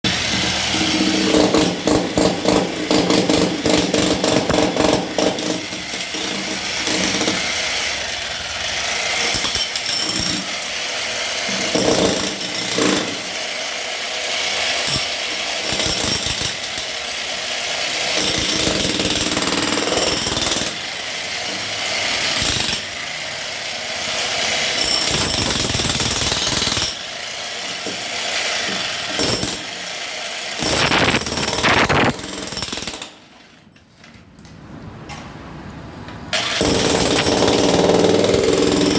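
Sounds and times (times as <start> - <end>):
hammer drill hammering concrete: 0.0 - 33.2, 36.3 - 38.9.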